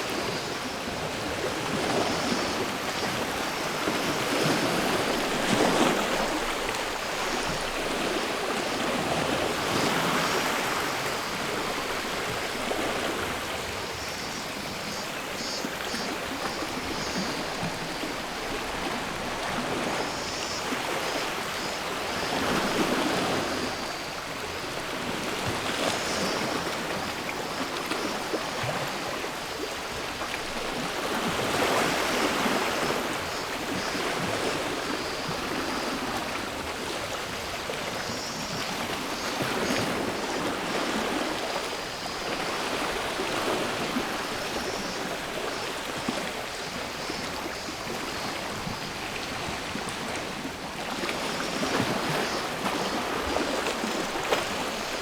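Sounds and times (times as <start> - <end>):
cicadas buzzing: 0.2 - 28.6, 31.4 - 49.8, 51.2 - 55.0.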